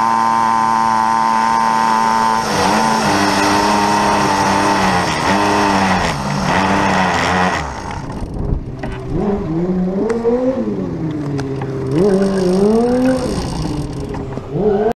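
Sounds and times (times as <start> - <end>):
small motorbike engine revving: 0.0 - 14.9.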